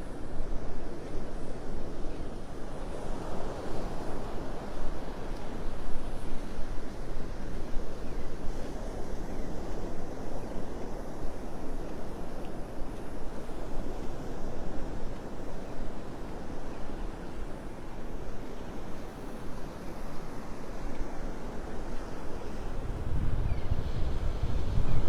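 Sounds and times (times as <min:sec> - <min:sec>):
surf washing on beach: 0:00.0 - 0:25.0
wind buffeting the microphone: 0:00.0 - 0:25.0.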